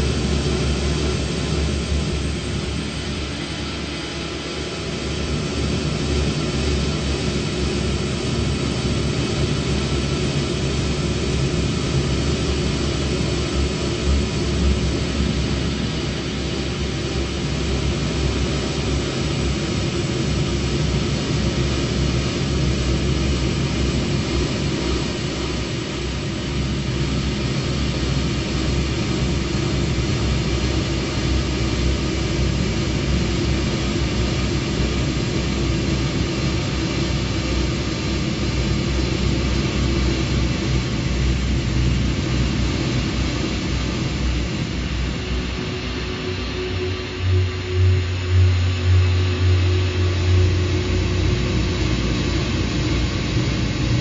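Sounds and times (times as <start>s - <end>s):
dark ambient drone music: 0.0s - 54.0s.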